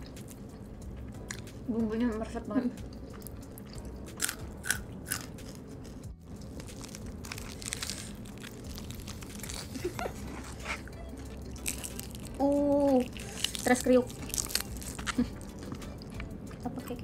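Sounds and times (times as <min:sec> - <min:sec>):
chewing crispy fried chicken: 0:02.8 - 0:16.7.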